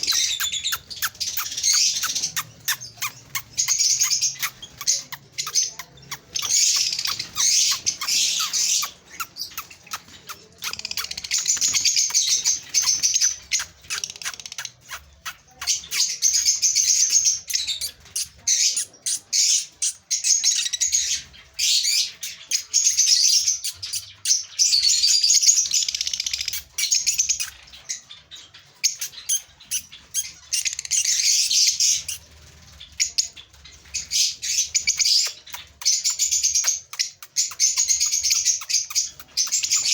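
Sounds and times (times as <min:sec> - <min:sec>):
cage birds chirping: 0:00.0 - 0:39.9.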